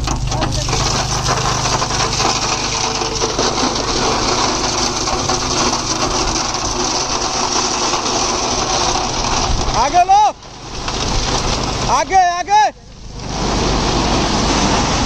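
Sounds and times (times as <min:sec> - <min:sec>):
rapid mechanical clatter: 0:00.0 - 0:13.2
diesel engines running: 0:00.0 - 0:15.0.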